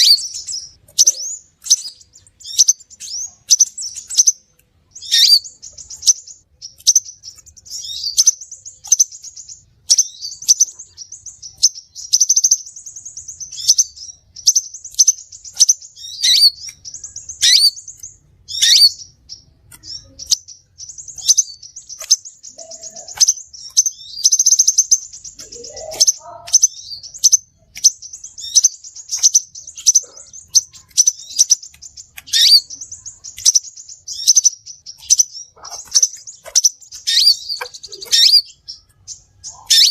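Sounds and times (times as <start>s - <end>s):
sunbird calling: 0.0s - 39.9s.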